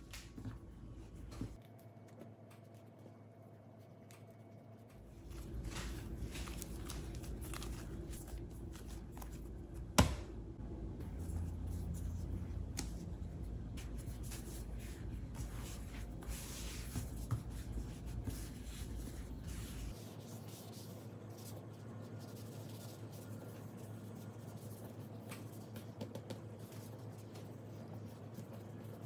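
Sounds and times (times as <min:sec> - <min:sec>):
hands kneading dough: 0:00.0 - 0:10.4, 0:11.0 - 0:29.0
steady low hum: 0:00.0 - 0:29.0.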